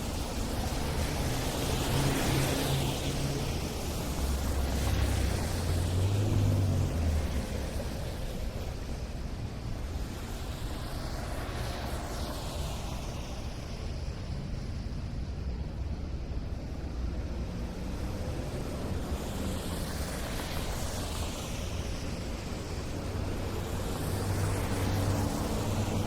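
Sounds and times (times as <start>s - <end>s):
car passing with tyre hiss: 0.0s - 26.0s
low rumble of traffic: 0.0s - 26.0s.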